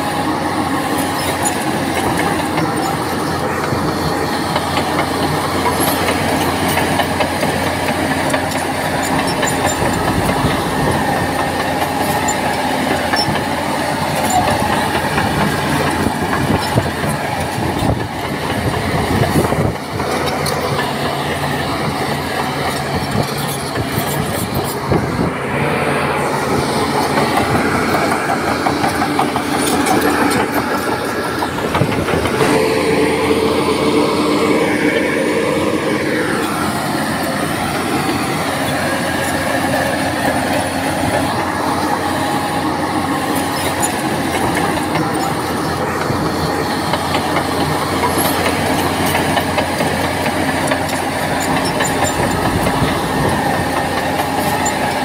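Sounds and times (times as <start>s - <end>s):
diesel engine running: 0.0s - 55.0s
metallic clatter of steel tracks: 0.0s - 55.0s.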